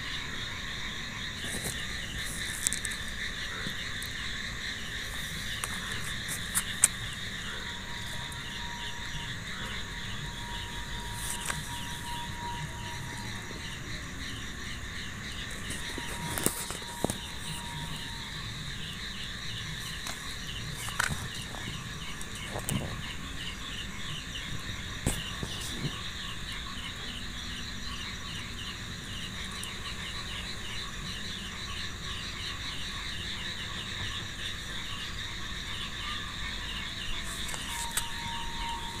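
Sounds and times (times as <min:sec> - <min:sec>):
fast pulsed insect call: 0:00.0 - 0:39.0
shrill insect drone: 0:00.0 - 0:39.0.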